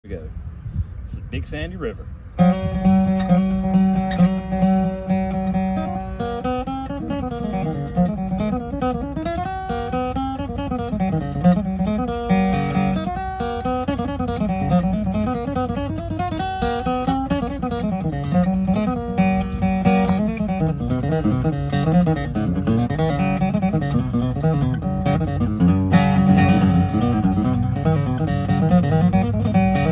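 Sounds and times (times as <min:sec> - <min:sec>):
acoustic guitar playing: 0:02.2 - 0:29.9.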